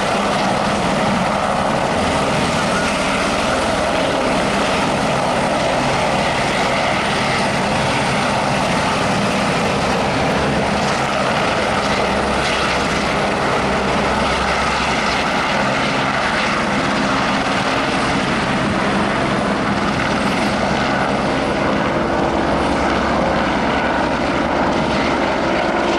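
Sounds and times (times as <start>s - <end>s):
helicopter rotor and engine: 0.0s - 25.9s.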